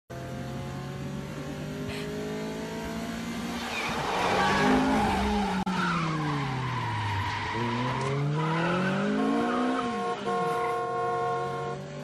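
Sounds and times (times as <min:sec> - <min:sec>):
road and tyre noise: 0:00.1 - 0:12.0.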